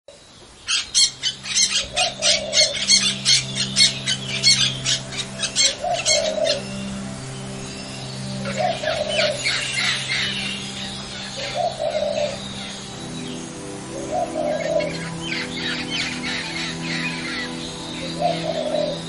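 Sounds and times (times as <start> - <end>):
birds chirping: 0.1 - 19.0
birds twittering: 0.1 - 19.0
soft relaxation music: 0.1 - 19.0.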